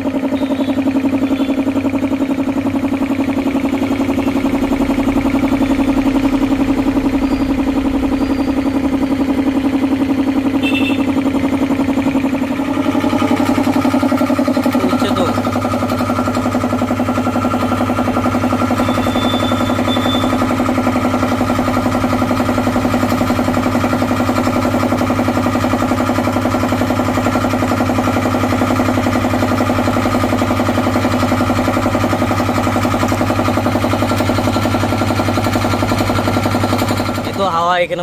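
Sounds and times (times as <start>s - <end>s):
piston air compressor running: 0.0s - 38.0s.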